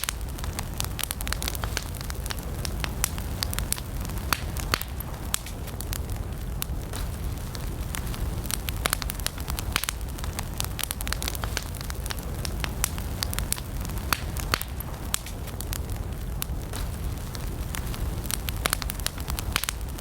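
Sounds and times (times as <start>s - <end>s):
fire crackles and pops: 0.0s - 20.0s
fire low rumble: 0.0s - 20.0s.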